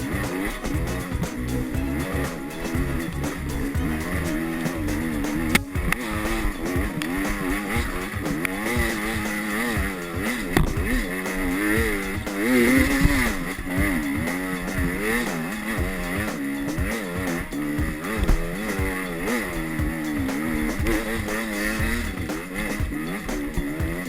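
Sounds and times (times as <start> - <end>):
motorcycle engine revving: 0.0 - 24.0
knocks and thumps: 0.1 - 24.0.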